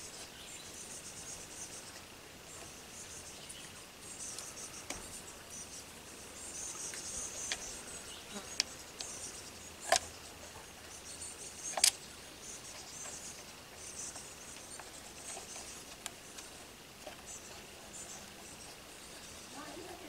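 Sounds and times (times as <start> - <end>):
insects chirping and buzzing: 0.0 - 20.0.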